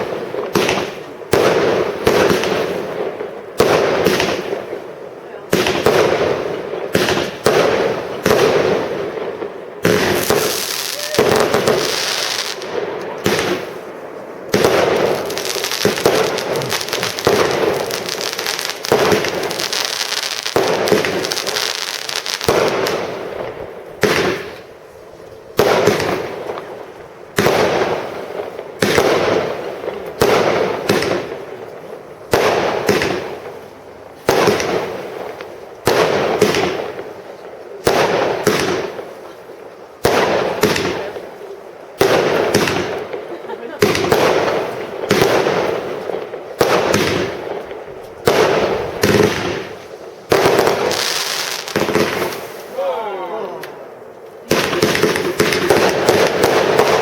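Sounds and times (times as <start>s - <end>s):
fireworks hiss: 0.0s - 52.9s, 54.4s - 57.0s
fireworks reports: 0.0s - 57.0s.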